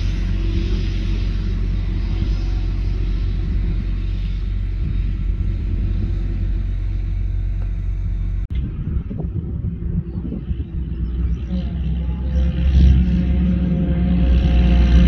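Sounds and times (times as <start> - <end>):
forage harvester droning: 0.0 - 15.0
tractor engine running: 0.0 - 15.0.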